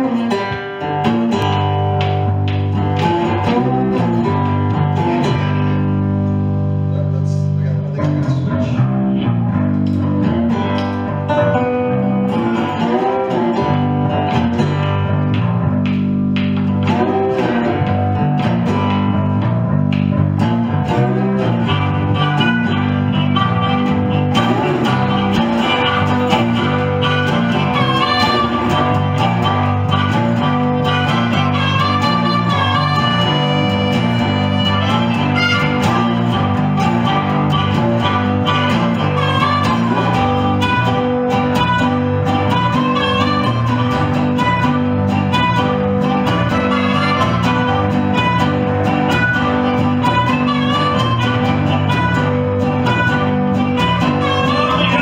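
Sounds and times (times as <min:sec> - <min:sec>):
bass guitar riff: 0:00.0 - 0:55.0
harmonica bent notes: 0:00.0 - 0:55.0
resonator guitar riff: 0:00.0 - 0:55.0.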